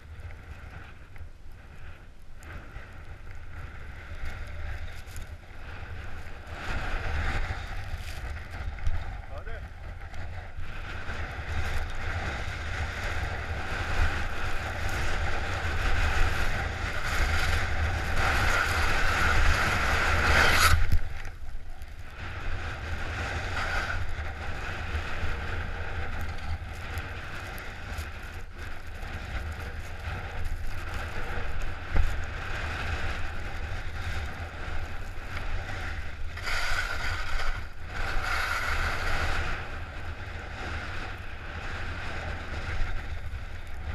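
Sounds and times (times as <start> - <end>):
skis scraping over snow: 0.0 - 43.9
wind rumble on microphone: 0.0 - 43.9.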